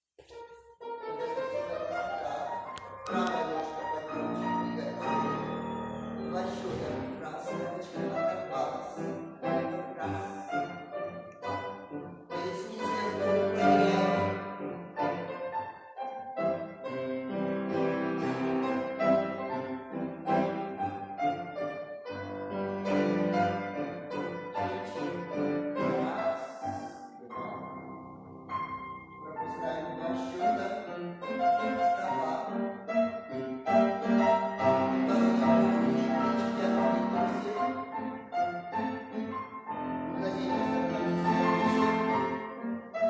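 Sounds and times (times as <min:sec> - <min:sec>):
classical piano music: 0:00.2 - 0:43.0.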